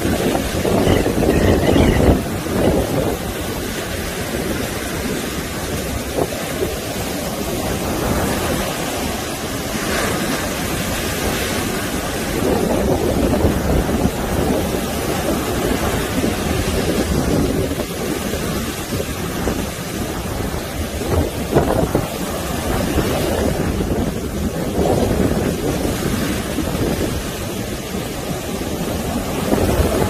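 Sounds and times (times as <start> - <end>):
surf breaking on beach: 0.0 - 30.0
wind rumble on microphone: 0.0 - 30.0.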